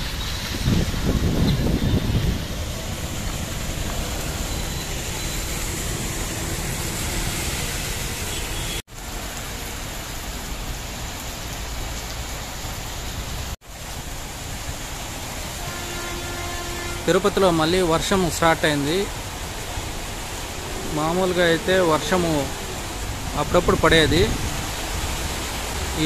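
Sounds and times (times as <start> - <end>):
heavy rain hissing: 0.0 - 26.0
street traffic passing: 0.0 - 26.0.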